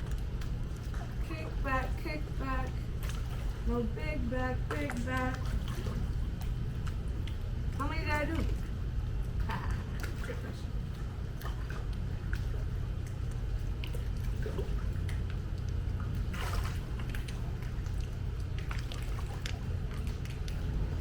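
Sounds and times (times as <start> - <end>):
pool water sloshing and splashing: 0.0 - 21.0
steady low hum: 0.0 - 21.0
water drips: 0.0 - 21.0.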